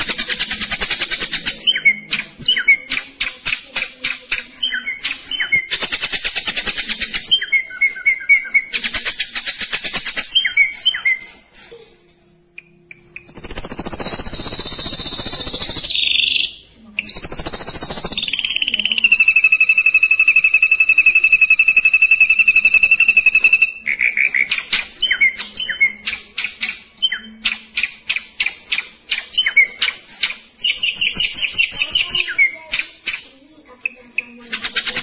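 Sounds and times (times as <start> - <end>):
bird singing trills: 0.0 - 3.4, 4.3 - 11.3, 12.6 - 35.0.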